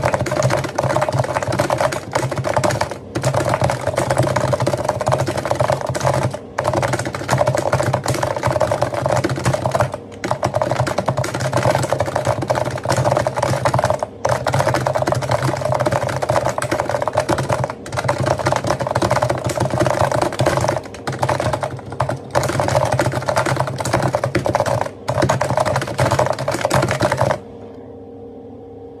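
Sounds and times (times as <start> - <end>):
rapid keyboard typing: 0.0 - 27.4.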